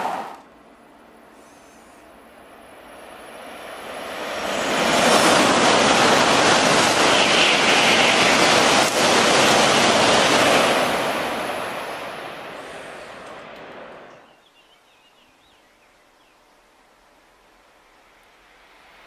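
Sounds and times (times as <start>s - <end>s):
high-speed train passing: 0.0s - 14.3s, 18.0s - 19.0s.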